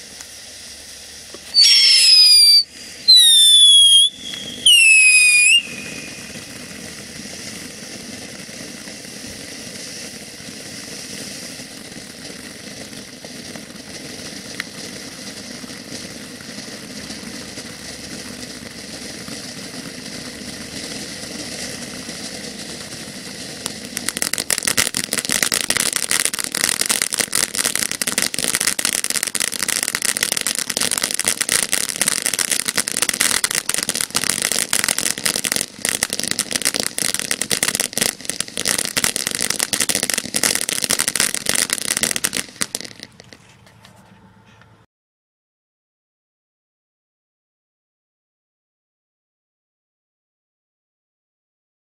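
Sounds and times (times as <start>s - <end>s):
firework fountain hissing: 0.0s - 44.7s
falling firework whistle: 0.0s - 44.8s
firework crackling: 0.0s - 44.8s.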